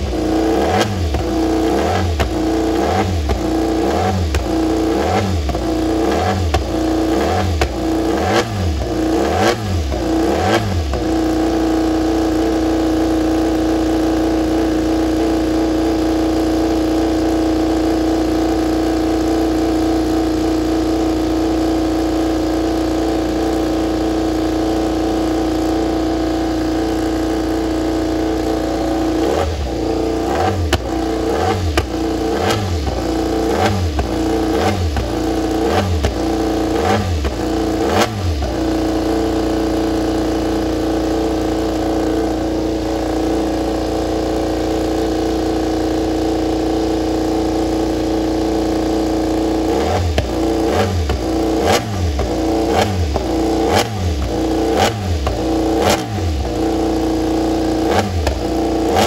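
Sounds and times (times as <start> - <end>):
motorcycle engine at steady revs: 0.0 - 59.0
motorcycle engine revving: 0.0 - 59.0.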